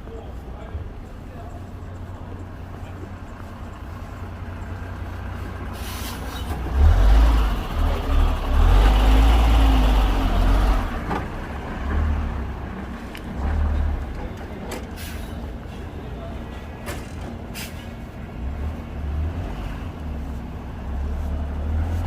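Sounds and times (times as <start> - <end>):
heavy vehicle passing: 0.6 - 22.0.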